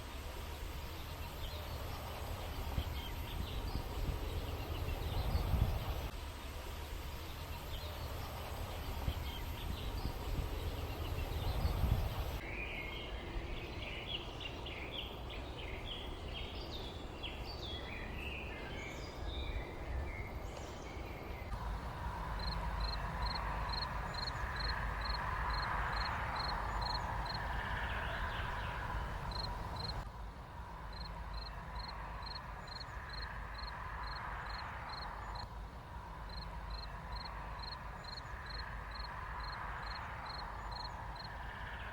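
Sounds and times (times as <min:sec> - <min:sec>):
small birds chirping: 0:00.0 - 0:06.1, 0:06.8 - 0:30.1, 0:30.9 - 0:41.9
low background noise: 0:00.0 - 0:41.9.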